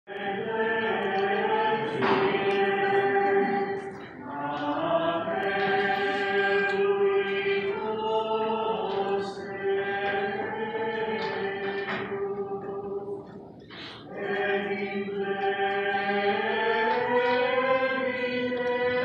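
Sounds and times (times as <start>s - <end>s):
voices singing a slow hymn: 0.1s - 19.0s.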